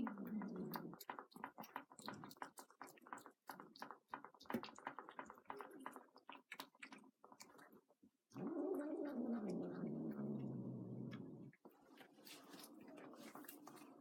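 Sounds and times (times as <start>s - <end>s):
cats chewing food: 0.0s - 14.0s.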